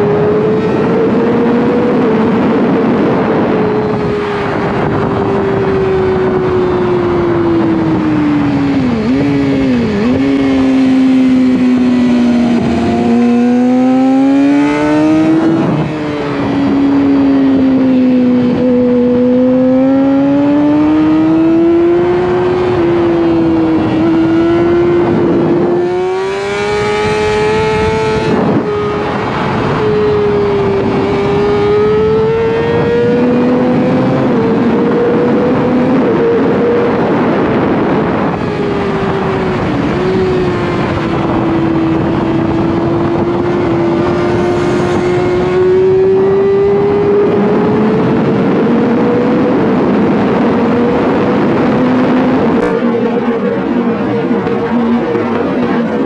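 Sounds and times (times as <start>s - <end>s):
racing motorcycle engine: 0.0s - 56.0s
rush of wind-like noise: 0.0s - 56.0s.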